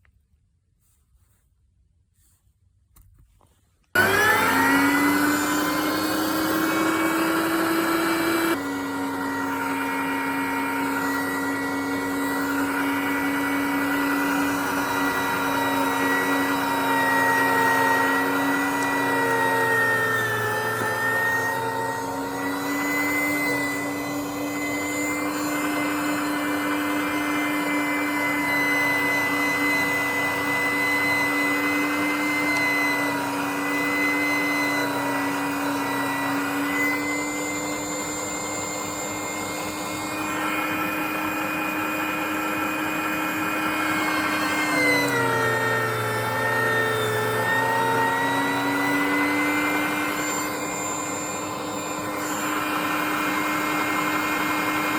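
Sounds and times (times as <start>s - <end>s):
electric meat grinder motor whining: 4.0s - 54.9s.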